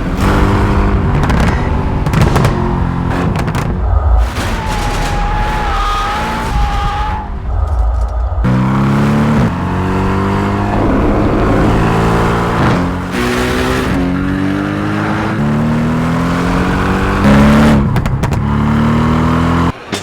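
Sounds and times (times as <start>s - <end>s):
car engine accelerating hard: 0.0s - 6.6s, 8.4s - 19.8s.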